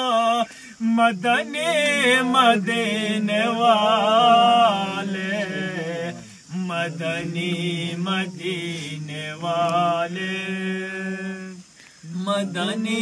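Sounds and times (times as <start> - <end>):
low steady hum: 0.0 - 13.0
man singing without instruments: 0.0 - 13.0.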